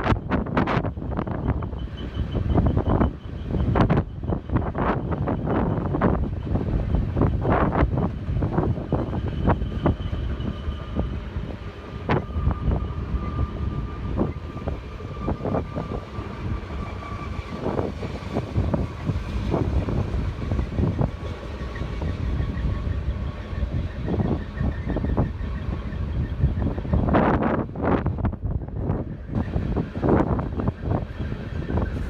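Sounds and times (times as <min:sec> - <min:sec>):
train clanks and knocks: 0:00.0 - 0:32.0
train rumbling past: 0:00.0 - 0:32.0.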